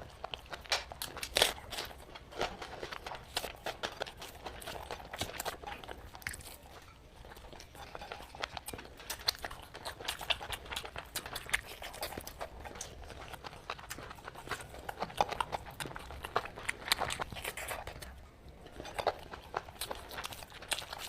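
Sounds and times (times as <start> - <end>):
chewing and mouth smacking: 0.0 - 21.0.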